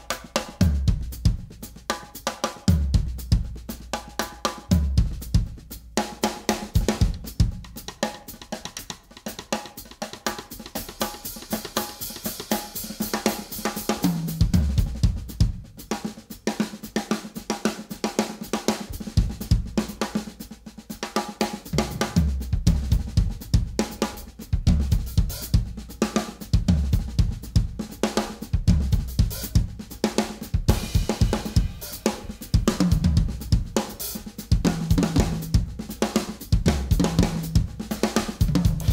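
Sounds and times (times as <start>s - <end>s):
drum kit playing: 0.0s - 38.9s
rapid kick drum strokes: 0.0s - 38.9s.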